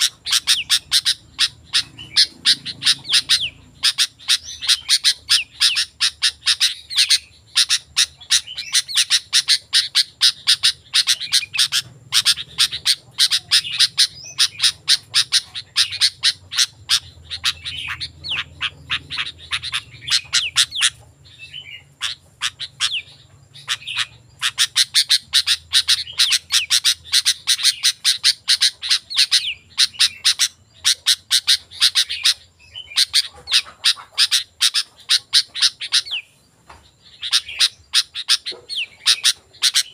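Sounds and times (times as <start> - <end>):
bulbul singing sharp chirps: 0.0 - 39.9.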